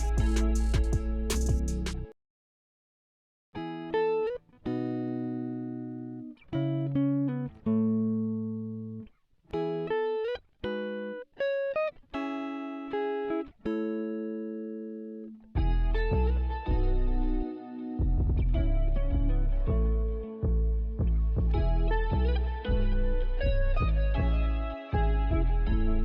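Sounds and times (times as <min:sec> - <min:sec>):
solo guitar melody: 0:00.0 - 0:02.1, 0:03.6 - 0:26.0.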